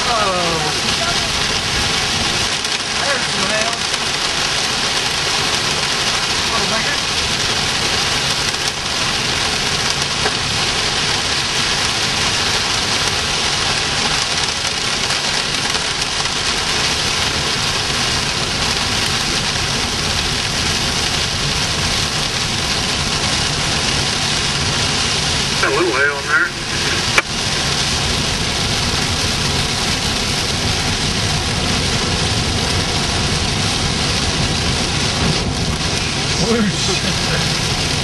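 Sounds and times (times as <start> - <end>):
hail and rain on vehicle roof: 0.0 - 38.0
vehicle engine running: 0.0 - 38.0.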